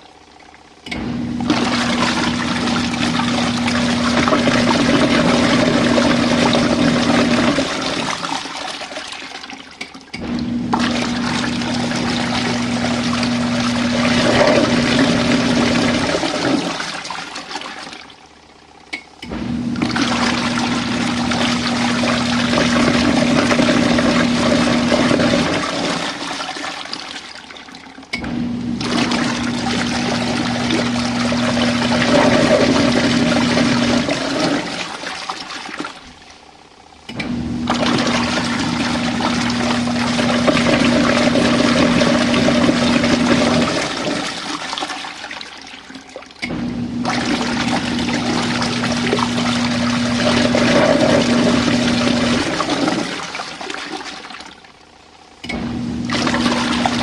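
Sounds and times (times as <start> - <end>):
washing machine motor humming: 0.0 - 57.0
water churning in tub: 0.0 - 57.0.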